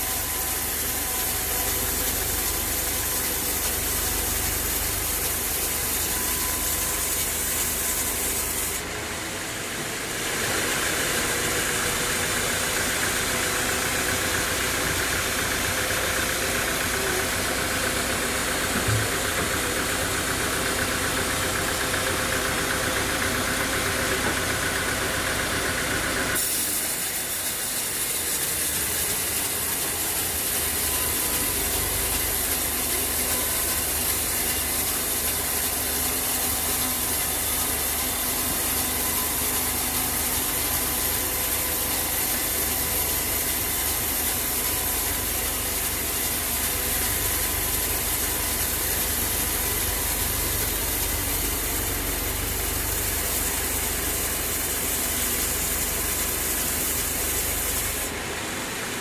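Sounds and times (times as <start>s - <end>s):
engine running: 0.0s - 59.0s
sawmill machinery running: 0.0s - 59.0s.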